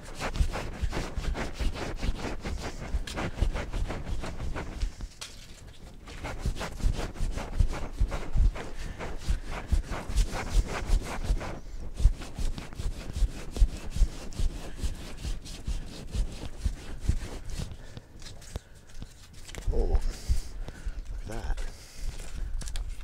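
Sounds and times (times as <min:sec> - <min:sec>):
sandpaper scraping back and forth: 0:00.0 - 0:05.2, 0:06.0 - 0:20.6.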